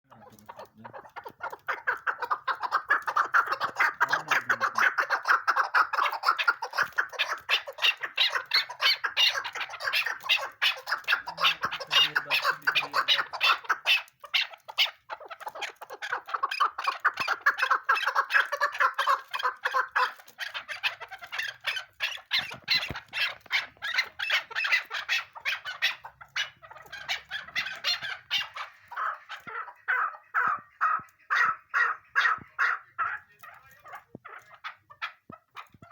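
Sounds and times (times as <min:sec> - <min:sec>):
partridge calling: 0:00.1 - 0:35.9.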